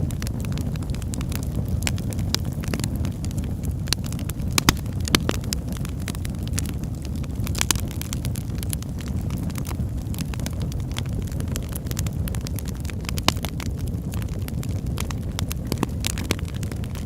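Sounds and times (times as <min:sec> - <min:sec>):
fire crackling and popping: 0:00.0 - 0:17.0
log fire rumbling: 0:00.0 - 0:17.0.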